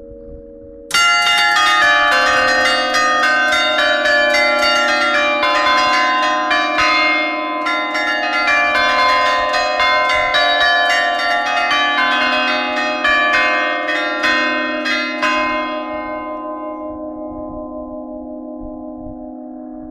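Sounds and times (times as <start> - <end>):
church bells pealing: 0.6 - 19.9.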